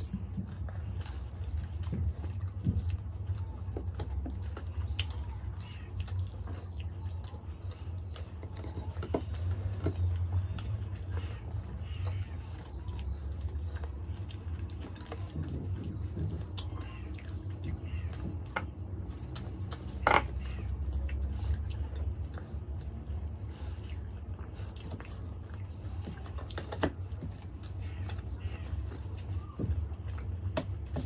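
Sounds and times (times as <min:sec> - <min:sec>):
people chewing: 0:00.0 - 0:31.0
steady low hum: 0:00.0 - 0:31.0.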